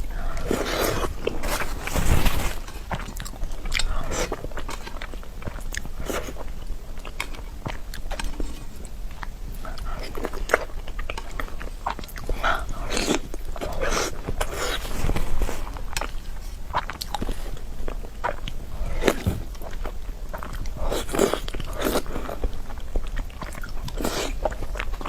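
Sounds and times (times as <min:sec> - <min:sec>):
wet chewing: 0:00.0 - 0:25.0.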